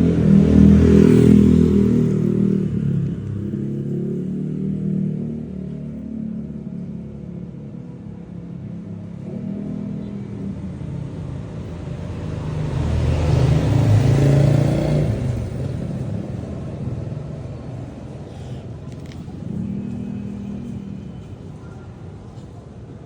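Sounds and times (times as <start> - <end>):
vehicle passing by: 0.0 - 6.7, 9.1 - 22.6
traffic engine hum: 0.0 - 23.0.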